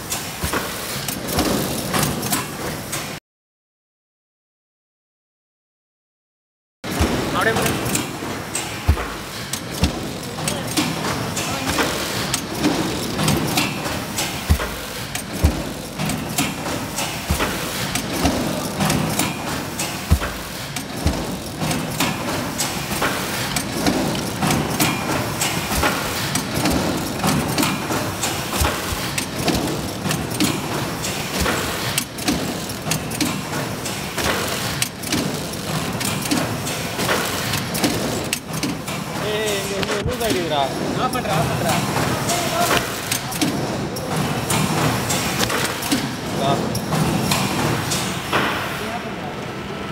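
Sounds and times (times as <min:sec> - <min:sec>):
packing machine clattering: 0:00.0 - 0:03.2, 0:06.9 - 0:48.4.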